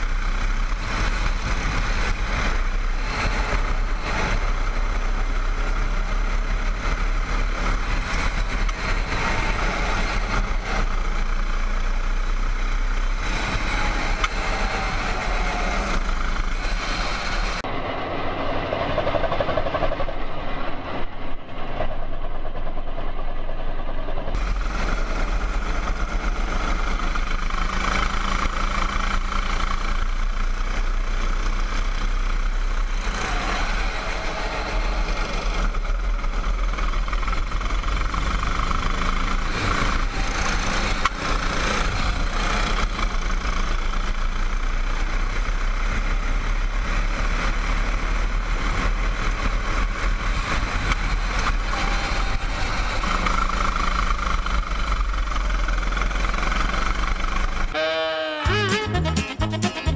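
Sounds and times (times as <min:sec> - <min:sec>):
go-kart engine running: 0:00.0 - 0:17.7, 0:24.3 - 0:57.8.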